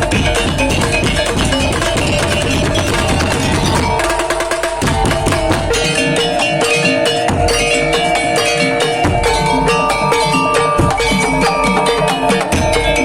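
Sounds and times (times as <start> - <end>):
fast beating on wooden slit drums: 0.0 - 13.0
held pitched notes: 0.0 - 13.0.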